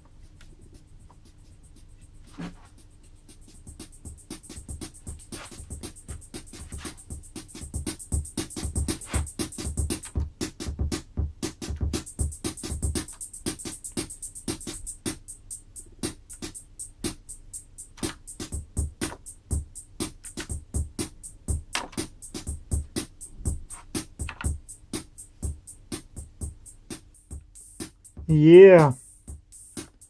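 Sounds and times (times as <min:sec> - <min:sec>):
drum machine high ticks: 0:00.2 - 0:30.0.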